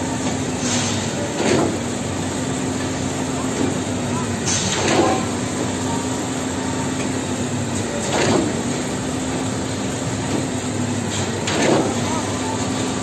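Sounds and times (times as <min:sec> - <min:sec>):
concrete pump humming: 0:00.0 - 0:13.0.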